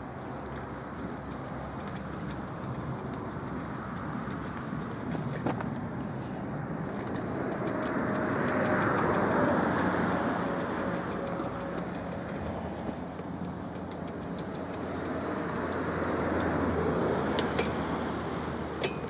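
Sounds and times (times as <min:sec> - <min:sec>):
vehicle passing: 0:00.0 - 0:18.8.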